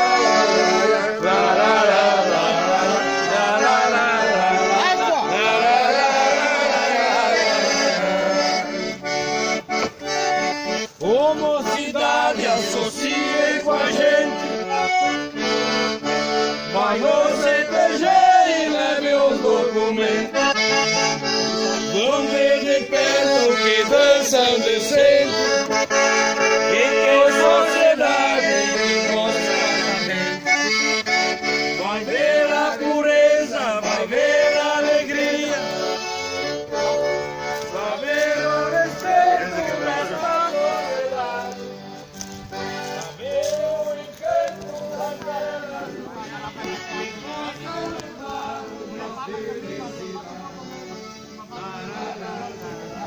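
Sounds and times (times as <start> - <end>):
piano accordion playing folk tune: 0.0 - 53.0.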